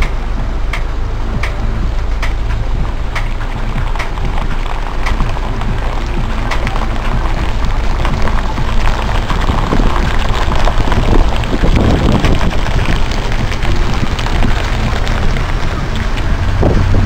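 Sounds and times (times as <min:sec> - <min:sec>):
dense crackling noise: 0:00.0 - 0:17.0
truck engine low rumble: 0:00.0 - 0:17.0.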